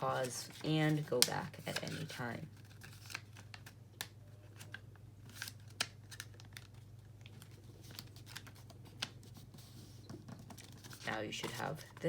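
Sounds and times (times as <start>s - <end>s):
paper folding and creasing: 0.0s - 3.8s, 4.4s - 12.0s
low steady hum: 0.0s - 12.0s.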